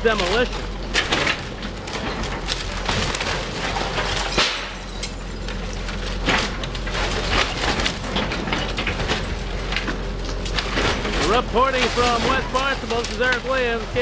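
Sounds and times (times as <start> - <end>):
demolition machinery rumble: 0.0 - 14.0
wood cracking and splintering: 0.0 - 14.0.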